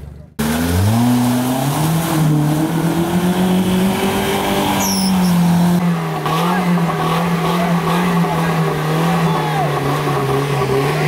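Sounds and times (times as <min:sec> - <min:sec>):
engine revving hard: 0:00.4 - 0:11.0.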